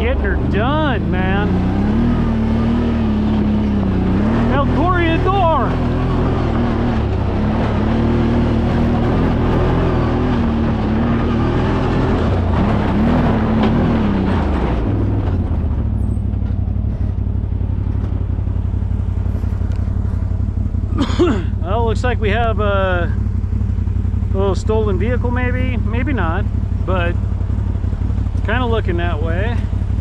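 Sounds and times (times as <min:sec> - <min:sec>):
utility vehicle engine revving: 0:00.0 - 0:30.0.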